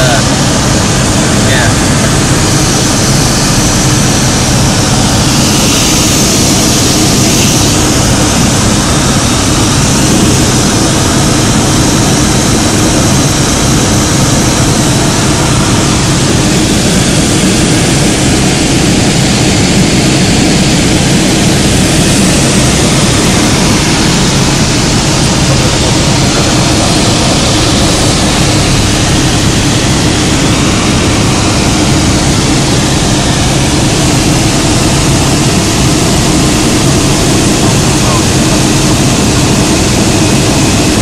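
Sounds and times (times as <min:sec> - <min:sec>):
propeller aircraft engine drone: 0:00.0 - 0:41.0
rush of air: 0:00.1 - 0:41.0.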